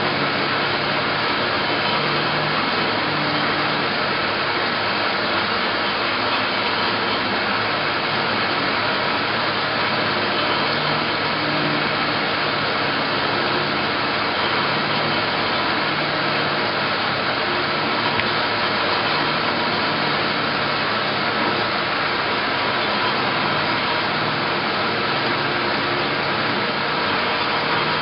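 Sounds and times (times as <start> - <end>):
bandsaw running: 0.0 - 28.0.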